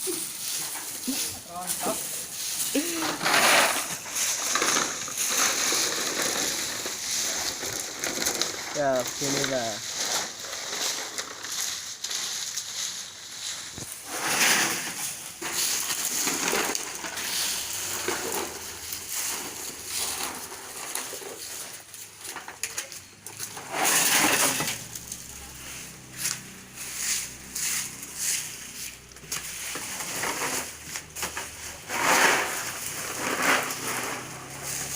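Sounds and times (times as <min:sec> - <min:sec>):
crackers rattling in machine: 0:00.8 - 0:11.9, 0:13.9 - 0:26.8, 0:29.2 - 0:34.9.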